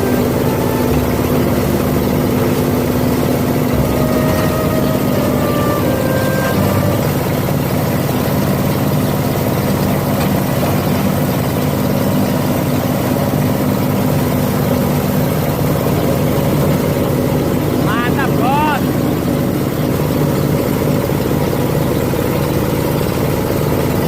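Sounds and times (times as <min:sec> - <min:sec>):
grinding machine running: 0:00.0 - 0:24.0.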